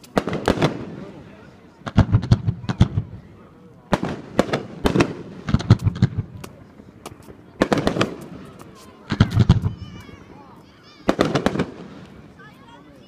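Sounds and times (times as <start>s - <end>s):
firecrackers banging: 0.0s - 3.3s, 3.9s - 12.6s.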